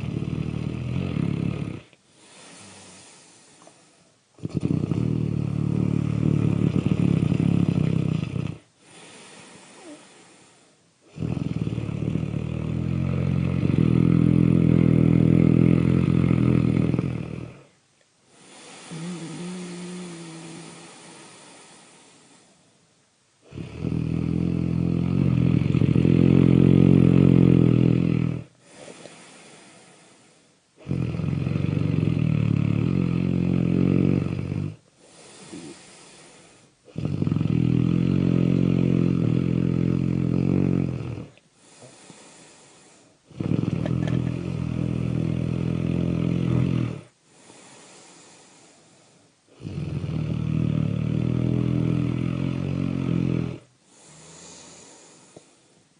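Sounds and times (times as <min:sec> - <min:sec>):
deep human snoring: 0:00.0 - 0:22.6, 0:23.4 - 0:55.6.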